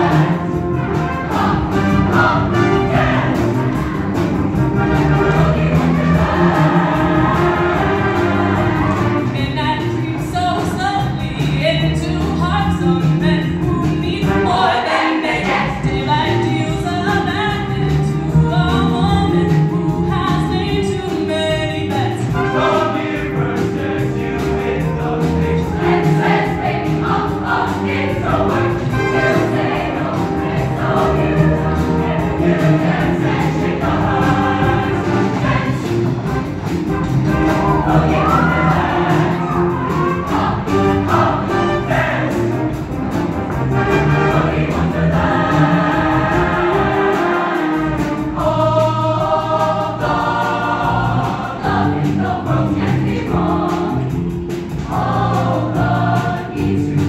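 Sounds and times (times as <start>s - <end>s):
bass line: 0.0s - 14.6s, 15.5s - 57.0s
choir singing disco-funk song: 0.0s - 57.0s.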